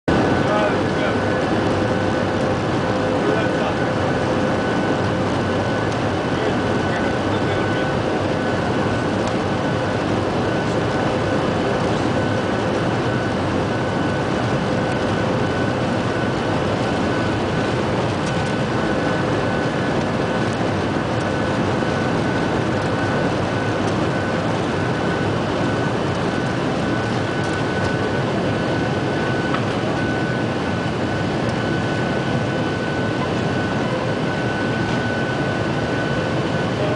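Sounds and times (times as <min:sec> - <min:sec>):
jet engines roaring with whine: 0:00.1 - 0:36.9.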